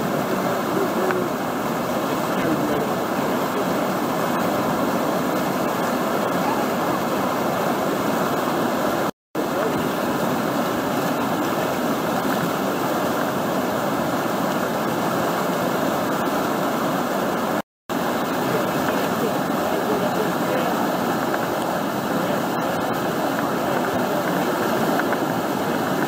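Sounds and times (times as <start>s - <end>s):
river whitewater rushing: 0.0s - 26.0s.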